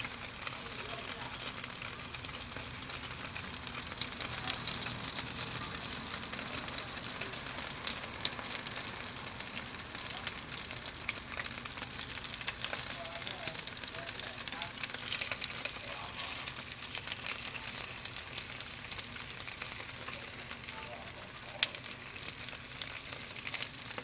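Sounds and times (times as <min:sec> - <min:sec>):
dumplings sizzling in oil: 0:00.0 - 0:24.0.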